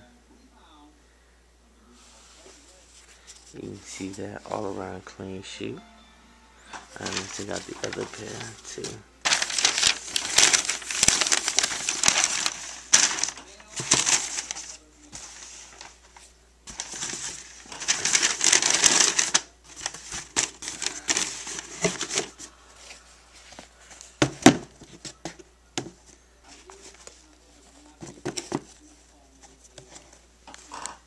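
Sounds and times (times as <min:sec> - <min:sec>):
crinkling rustling handling noise: 0:02.0 - 0:05.6, 0:06.7 - 0:31.0.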